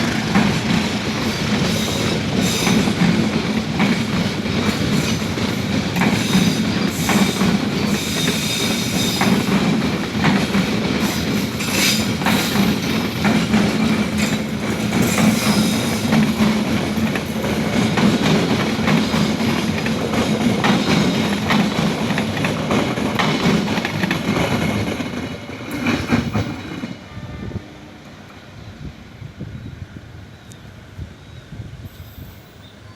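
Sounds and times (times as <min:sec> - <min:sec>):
passenger train rumbling: 0:00.0 - 0:32.9.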